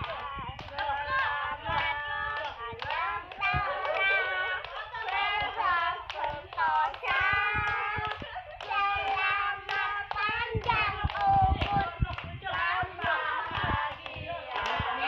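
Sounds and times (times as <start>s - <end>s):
group singing a birthday song: 0.0s - 15.0s
hands clapping: 0.0s - 15.0s.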